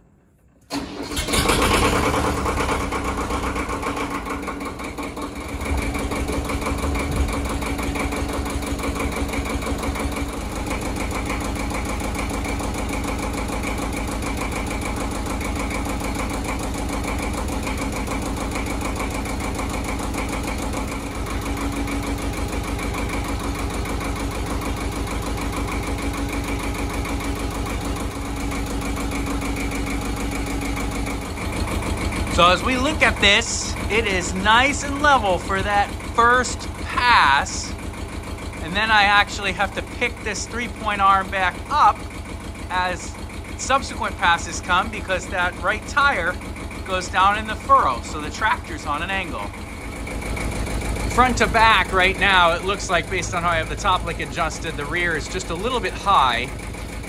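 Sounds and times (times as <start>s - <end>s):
tractor diesel engine idling: 0.7s - 57.0s.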